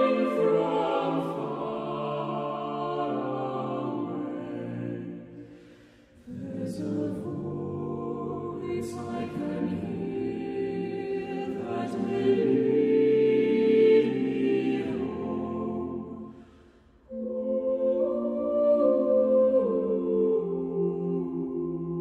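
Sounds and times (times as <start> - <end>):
a cappella choir singing in harmony: 0.0 - 22.0.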